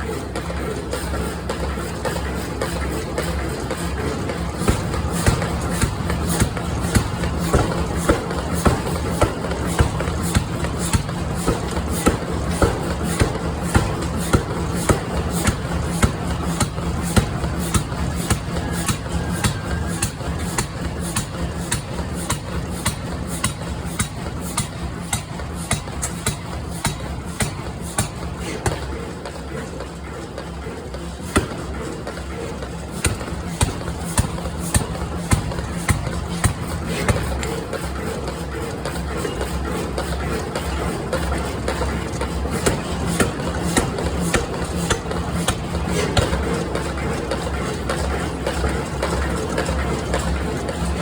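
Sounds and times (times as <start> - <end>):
machine hum: 0.0 - 38.6, 40.7 - 51.0.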